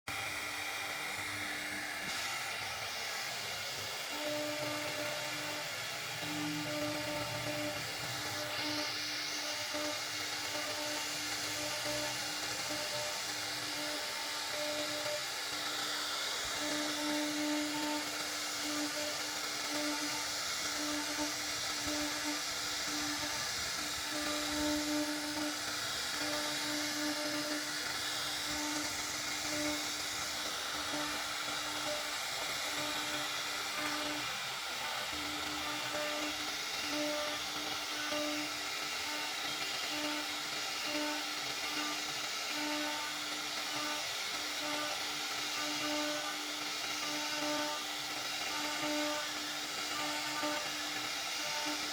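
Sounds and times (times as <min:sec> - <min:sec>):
router spindle cutting wood: 0:00.1 - 0:51.9.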